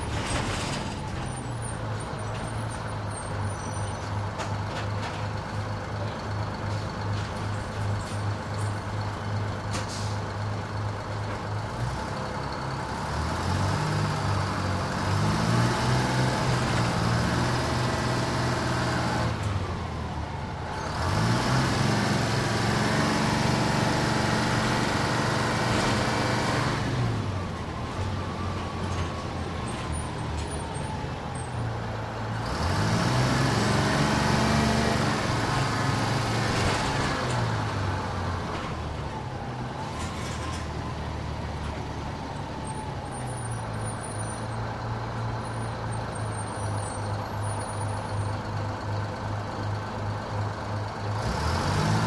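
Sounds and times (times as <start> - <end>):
bus engine accelerating: 0.0 - 52.0.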